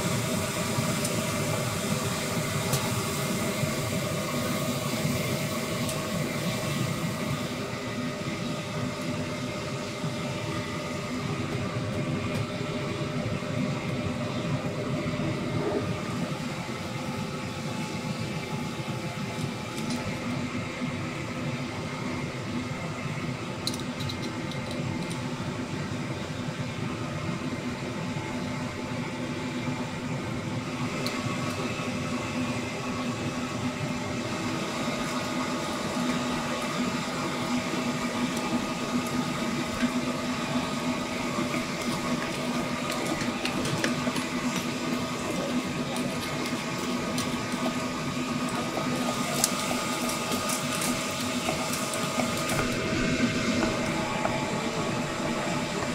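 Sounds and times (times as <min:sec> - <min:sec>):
mechanical hum: 0:00.0 - 0:55.9.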